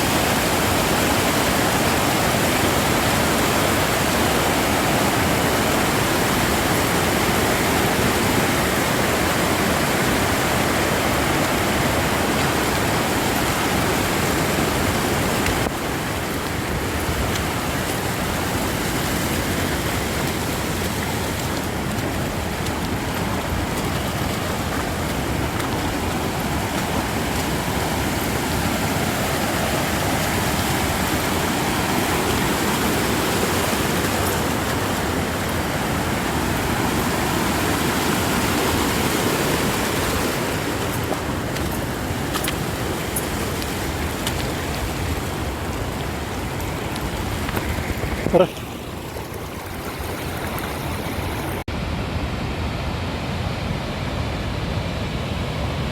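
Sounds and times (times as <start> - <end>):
mountain creek rushing: 0.0 - 55.9.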